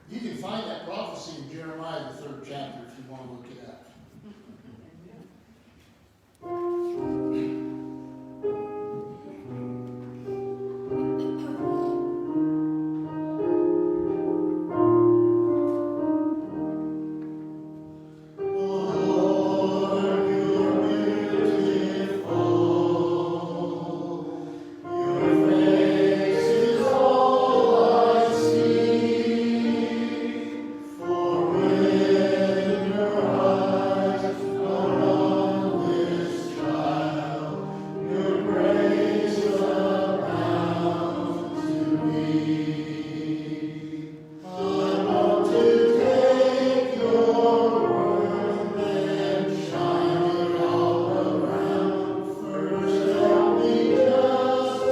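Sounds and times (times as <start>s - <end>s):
instrumental hymn introduction: 0.0s - 54.9s
congregation singing a hymn: 6.4s - 54.9s.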